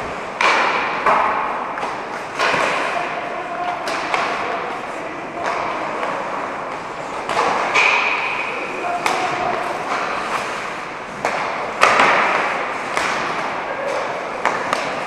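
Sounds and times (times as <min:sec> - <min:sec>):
hockey pucks and sticks knocking: 0:00.0 - 0:15.0.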